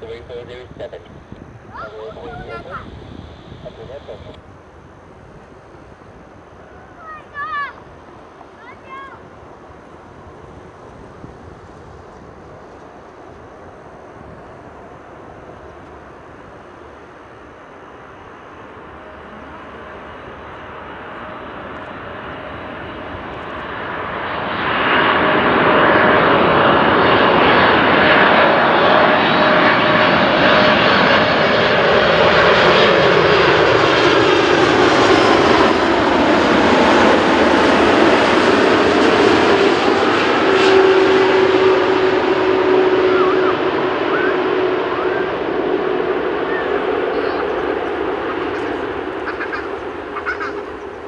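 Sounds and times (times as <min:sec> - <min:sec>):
jet plane passing: 0:00.0 - 0:51.0.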